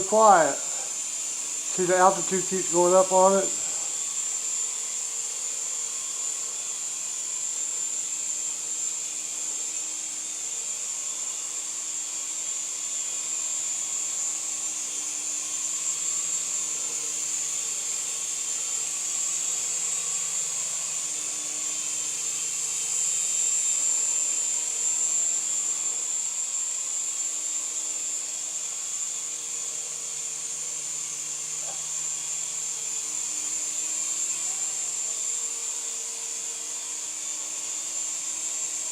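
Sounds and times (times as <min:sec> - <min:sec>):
toy helicopter motor whine: 0:00.0 - 0:38.9.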